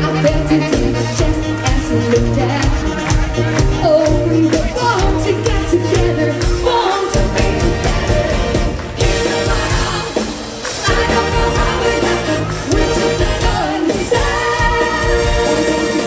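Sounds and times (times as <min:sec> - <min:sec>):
brass band playing pop-rock: 0:00.0 - 0:16.0.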